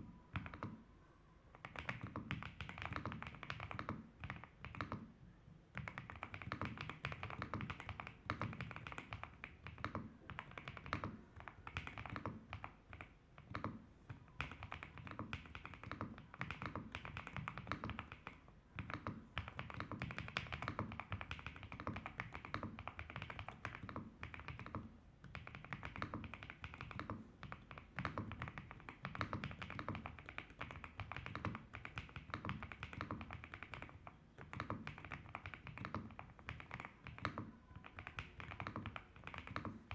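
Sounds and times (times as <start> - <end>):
fast typing on mechanical keyboard: 0.3 - 0.8, 1.5 - 5.1, 5.7 - 39.9.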